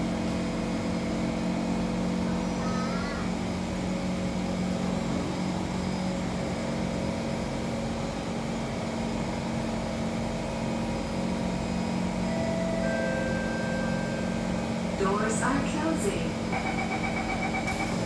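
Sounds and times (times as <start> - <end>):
train traction hum: 0.0 - 18.0.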